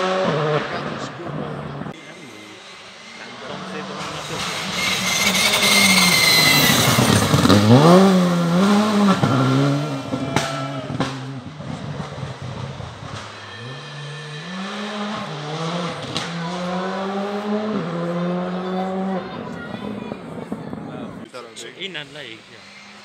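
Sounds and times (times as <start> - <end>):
rally car engine revving: 0.0 - 21.3.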